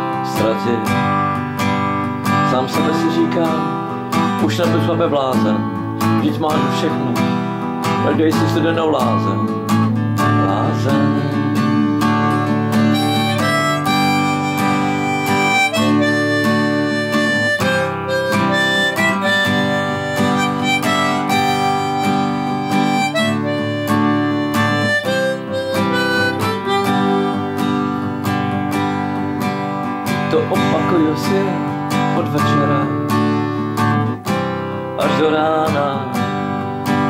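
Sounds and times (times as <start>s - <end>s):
harmonica melody: 0.0s - 37.0s
strummed acoustic guitar: 0.0s - 37.0s.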